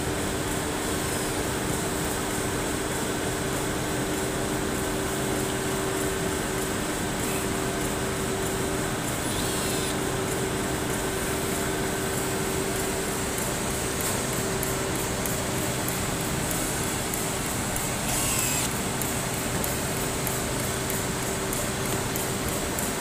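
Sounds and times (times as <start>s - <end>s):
factory machinery humming: 0.0s - 23.0s.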